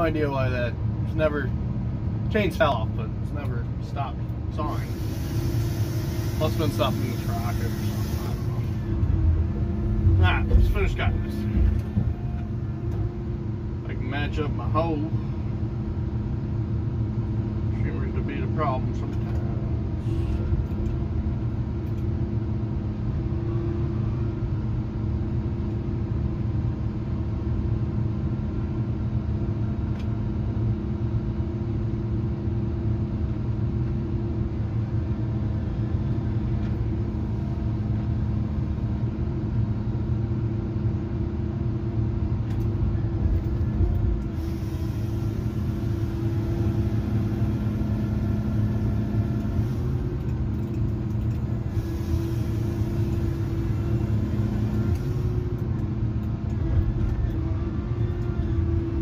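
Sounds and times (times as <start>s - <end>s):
diesel engine and hydraulics drone: 0.0s - 59.0s.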